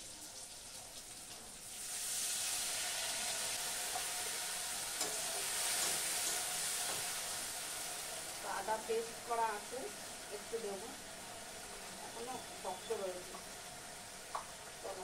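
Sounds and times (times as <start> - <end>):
water sizzling in hot pan: 0.0 - 15.0.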